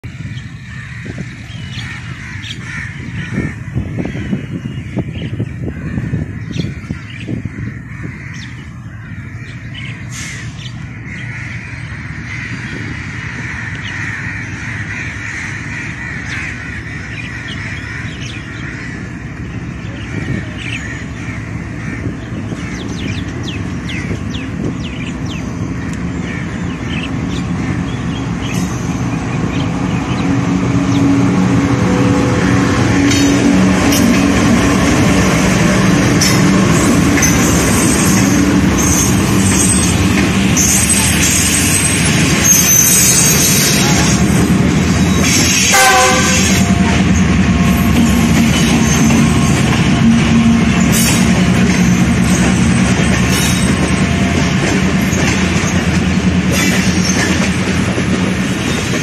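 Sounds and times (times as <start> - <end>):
diesel locomotive rumble: 0.0 - 59.0
birds calling and chirping: 0.1 - 59.0.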